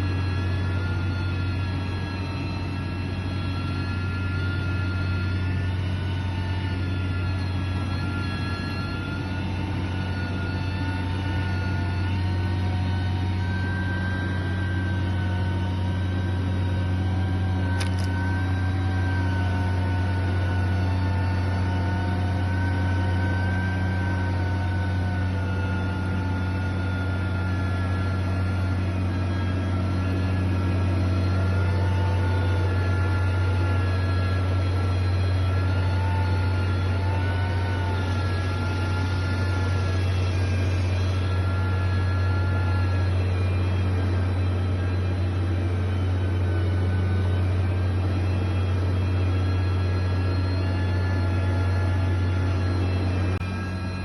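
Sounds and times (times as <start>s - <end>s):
construction machine engine running: 0.0s - 54.0s.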